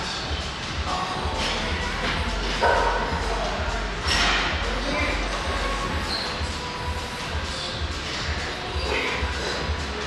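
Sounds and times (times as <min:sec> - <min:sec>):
background music with bass beat: 0:00.0 - 0:10.0.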